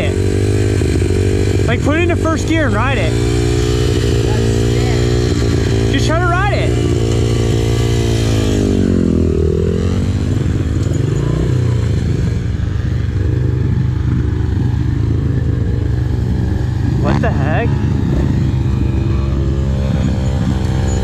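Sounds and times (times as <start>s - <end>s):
small motorbike engine running: 0.0s - 21.0s.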